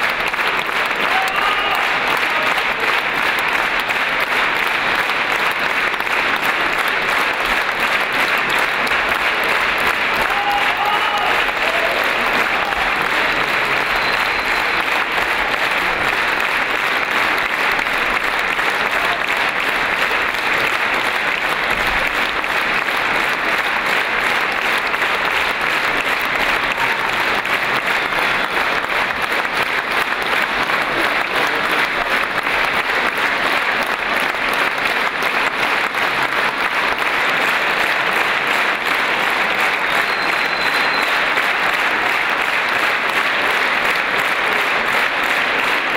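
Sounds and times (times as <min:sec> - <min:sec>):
audience applauding: 0:00.0 - 0:45.9.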